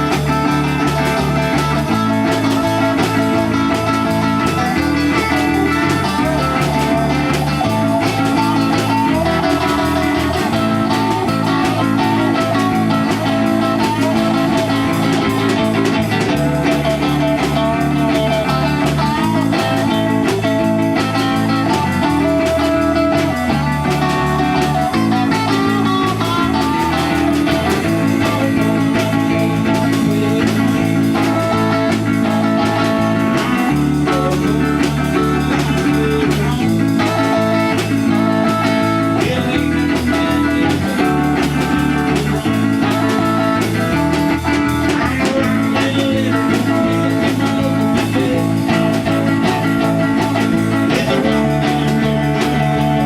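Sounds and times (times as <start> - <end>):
blues-rock band playing: 0.0 - 53.0
electric guitar: 0.0 - 53.0.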